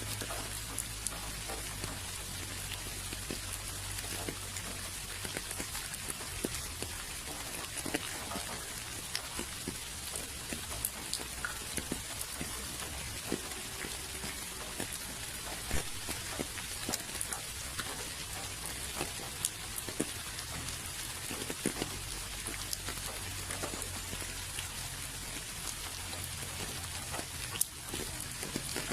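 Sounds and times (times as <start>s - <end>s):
raindrops tapping on surfaces: 0.0s - 28.9s
steady rain hiss: 0.0s - 28.9s.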